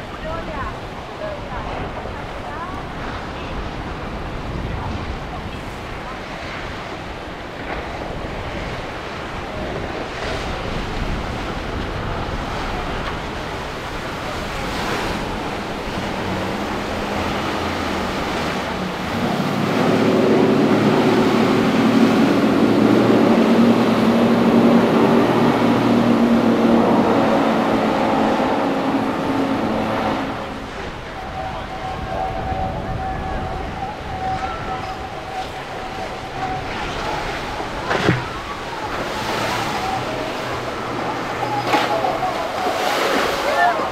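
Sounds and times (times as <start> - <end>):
boat engines: 0.0 - 43.9
surf: 0.0 - 43.9
wind: 0.0 - 43.9.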